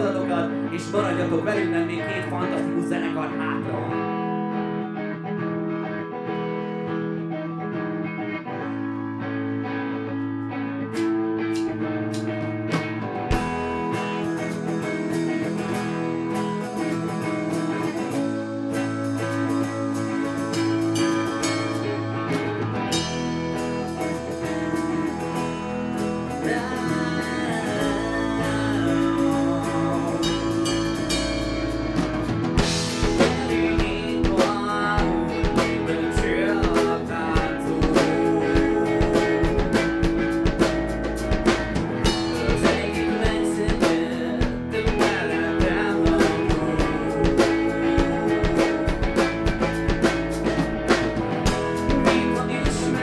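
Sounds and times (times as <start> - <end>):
person singing: 0.0 - 5.5, 13.3 - 53.0
live rock band playing: 0.0 - 53.0.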